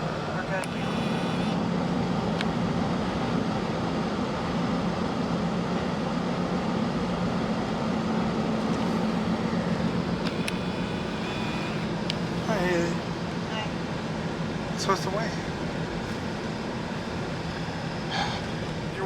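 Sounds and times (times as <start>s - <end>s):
constant low hum: 0.0s - 19.0s
road and engine noise in car: 0.0s - 19.0s.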